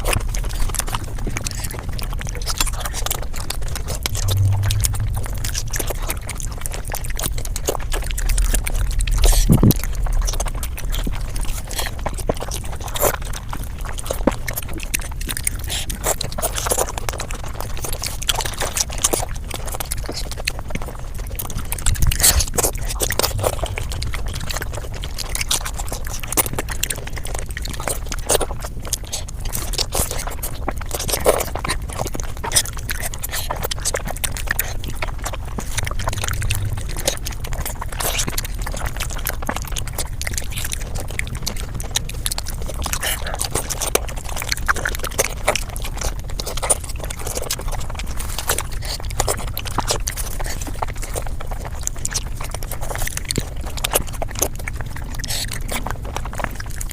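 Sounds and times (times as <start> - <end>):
sped-up chewing clicks: 0.0 - 56.9.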